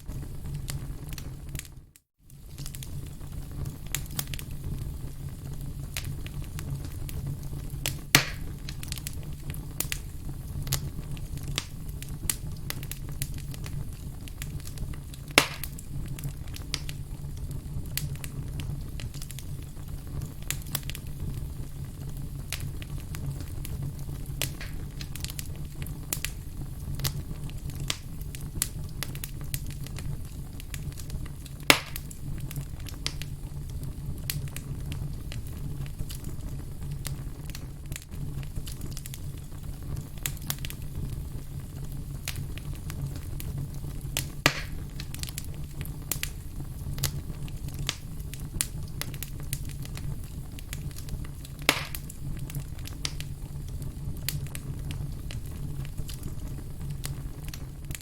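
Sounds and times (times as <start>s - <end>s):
loud fire pops: 0.0s - 58.0s
wood fire crackling: 0.0s - 58.0s.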